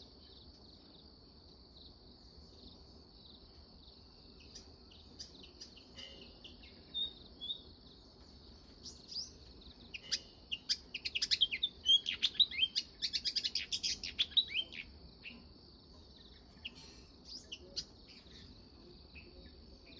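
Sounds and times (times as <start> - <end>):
insect drone: 0.0 - 19.9
sparrows chirping: 1.8 - 15.5, 16.1 - 19.9.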